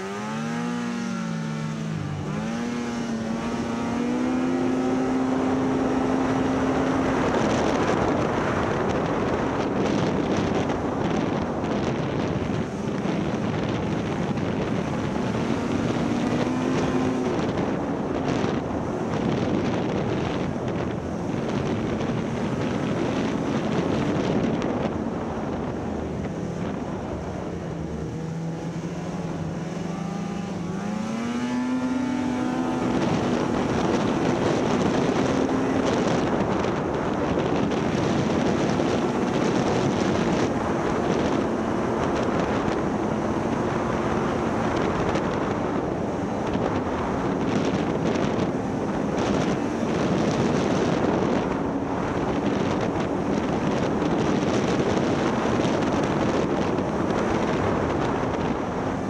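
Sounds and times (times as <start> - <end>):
snowmobile engine running: 0.0 - 59.0
wind noise on microphone: 0.0 - 59.0.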